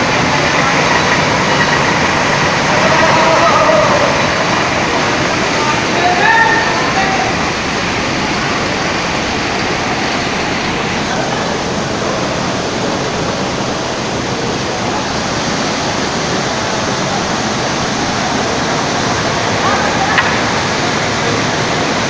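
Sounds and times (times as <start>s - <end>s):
sump pump running: 0.0s - 22.0s
water rushing and splashing: 0.0s - 22.0s.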